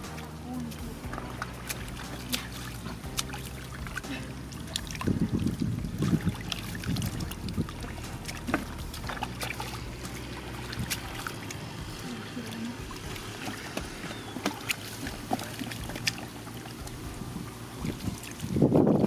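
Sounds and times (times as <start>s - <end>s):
short sharp splashes and clicks: 0.0s - 17.0s
shallow water sloshing: 0.0s - 19.0s.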